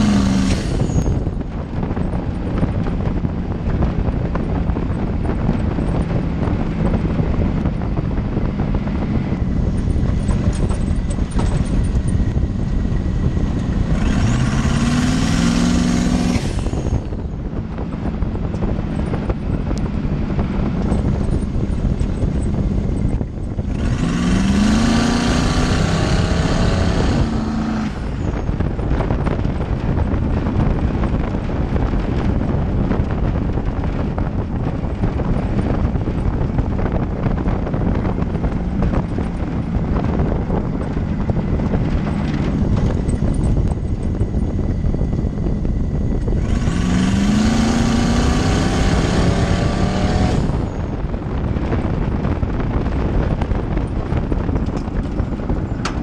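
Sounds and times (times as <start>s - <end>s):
engine accelerating with turbo hiss: 0.0s - 56.0s.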